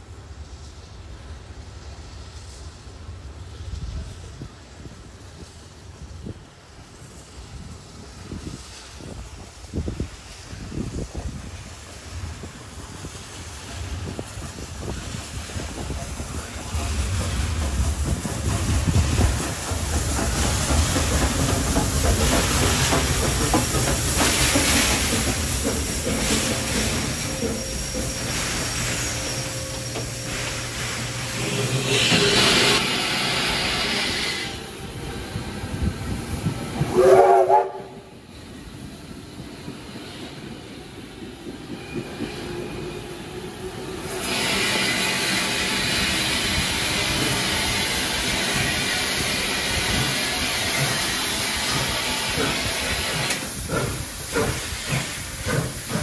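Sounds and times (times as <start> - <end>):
electric train rumble: 0.0 - 56.0
rising train whine: 0.0 - 56.0
steam hissing: 0.0 - 56.0.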